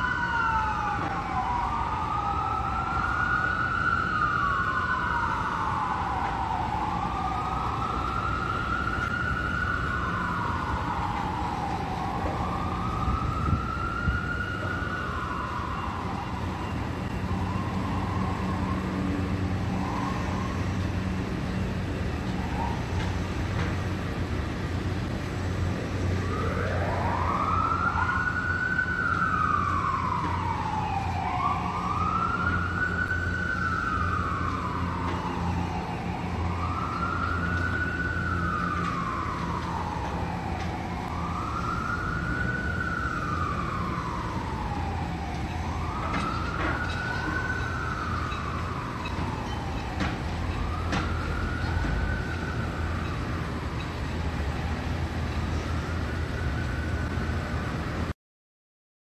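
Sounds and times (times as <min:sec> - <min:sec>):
siren wailing: 0:00.0 - 0:58.1.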